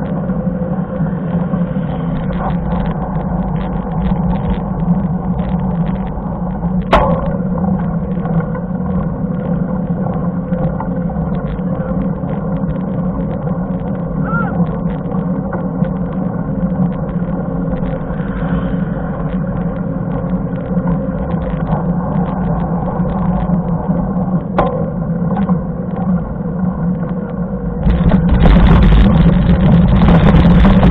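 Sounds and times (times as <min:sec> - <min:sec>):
bike rattles and clicks: 0:00.0 - 0:30.9
tyres rolling on asphalt: 0:00.0 - 0:30.9
wind on microphone: 0:00.0 - 0:30.9.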